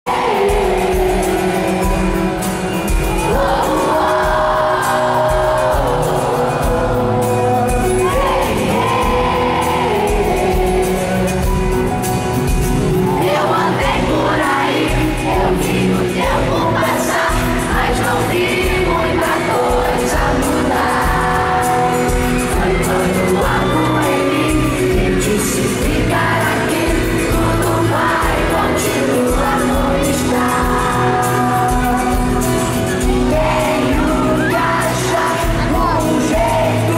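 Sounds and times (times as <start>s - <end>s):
lead voice singing: 0.0s - 36.9s
band playing: 0.1s - 36.9s
crowd shouting and whooping: 0.1s - 36.9s.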